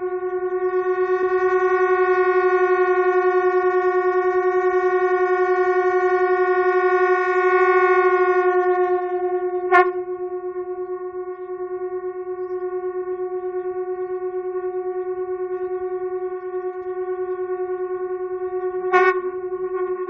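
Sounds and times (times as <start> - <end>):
conch shells low drone: 0.0 - 20.0.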